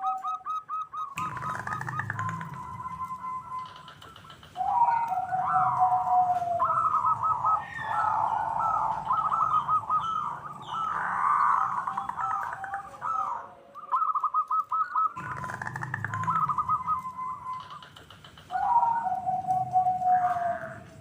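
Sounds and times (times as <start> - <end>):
doves cooing: 0.0 - 21.0
small birds chirping: 0.0 - 21.0.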